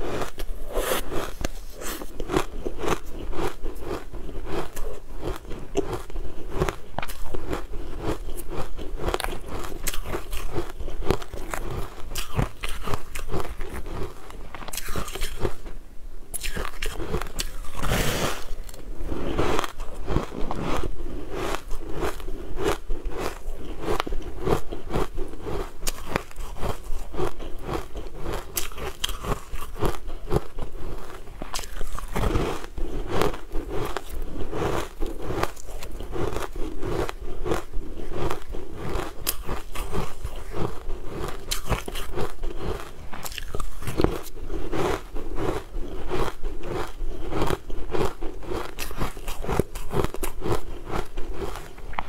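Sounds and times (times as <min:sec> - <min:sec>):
crunchy food chewing: 0:00.0 - 0:52.0.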